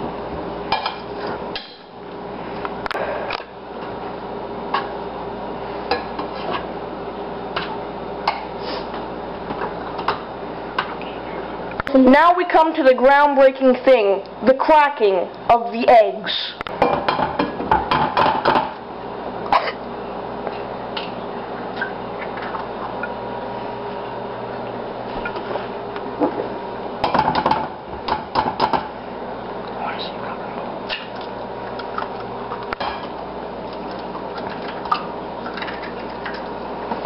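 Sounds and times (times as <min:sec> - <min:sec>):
steady background hum: 0:00.0 - 0:37.0.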